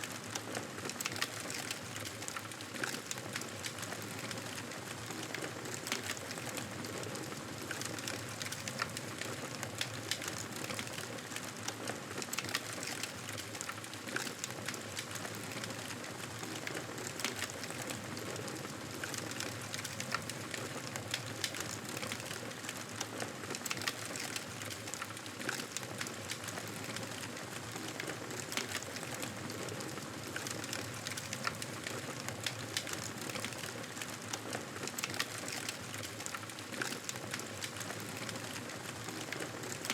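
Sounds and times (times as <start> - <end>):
wood fire crackling: 0.3 - 39.9.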